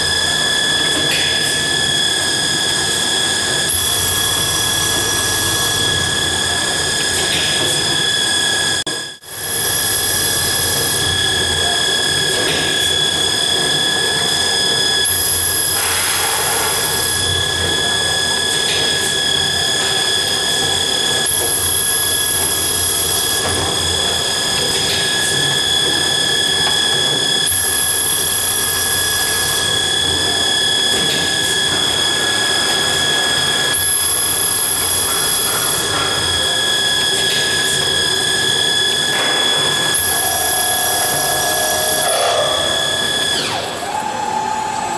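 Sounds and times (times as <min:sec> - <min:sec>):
drilling machine whining: 0:00.0 - 0:44.9.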